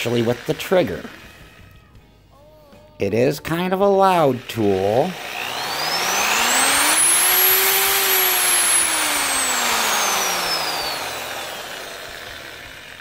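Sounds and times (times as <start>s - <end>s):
drill motor whining: 0.0s - 1.8s, 3.5s - 13.0s.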